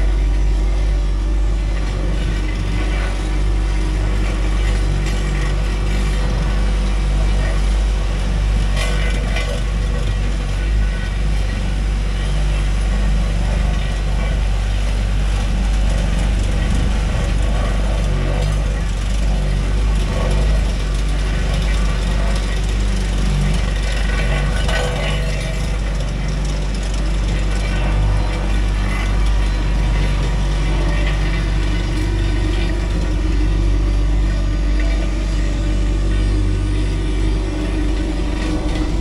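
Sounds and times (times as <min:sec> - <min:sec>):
diesel engine running: 0:00.0 - 0:39.0
mechanical clatter and rattling: 0:00.0 - 0:39.0.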